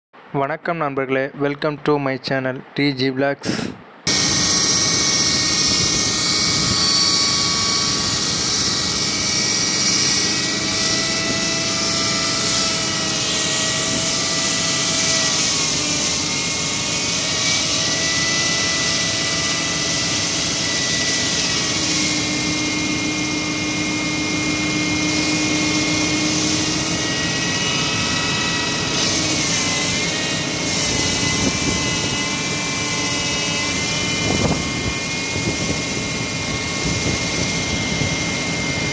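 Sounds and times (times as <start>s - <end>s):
wall saw cutting concrete: 4.1s - 38.9s.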